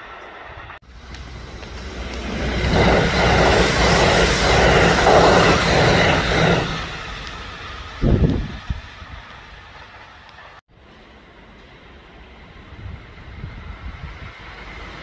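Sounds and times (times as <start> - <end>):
train passing: 0.0 - 15.0.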